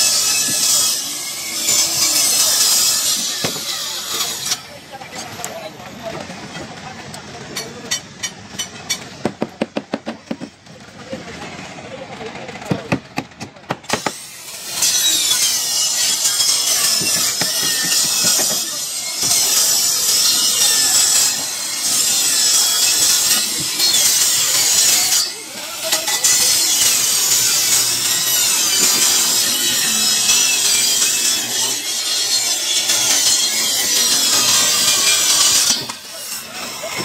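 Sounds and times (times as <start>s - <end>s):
circular saw cutting wood: 0.0s - 9.2s, 13.9s - 37.0s.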